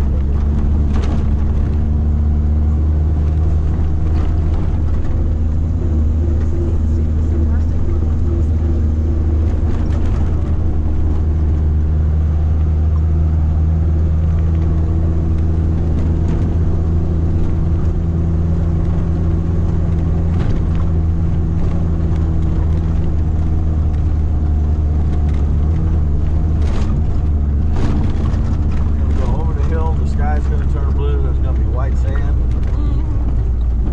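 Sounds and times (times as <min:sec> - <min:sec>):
low engine drone: 0:00.0 - 0:33.9
road noise: 0:00.0 - 0:33.9.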